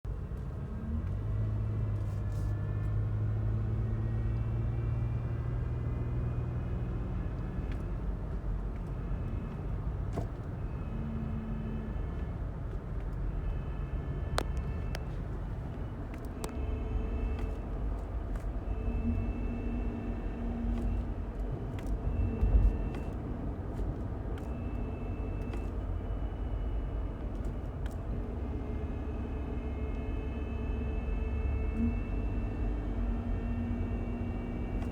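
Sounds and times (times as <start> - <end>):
road and engine rumble: 0.0 - 34.9
high transmission whine: 0.1 - 34.9.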